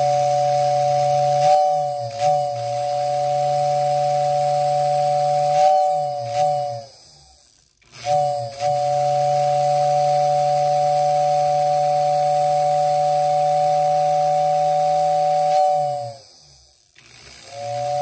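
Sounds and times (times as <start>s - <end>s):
two-note toy train whistle: 0.0s - 7.1s, 7.9s - 16.4s, 17.4s - 18.0s
low motor hum: 0.0s - 18.0s.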